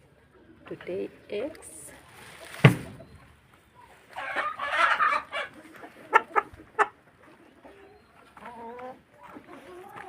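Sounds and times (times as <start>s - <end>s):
hens clucking: 0.0s - 10.0s.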